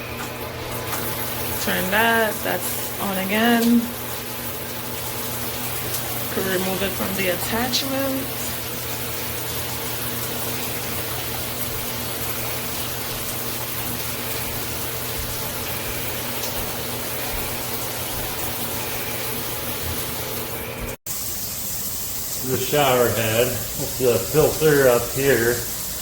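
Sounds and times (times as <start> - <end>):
shower water spraying: 0.0 - 26.0.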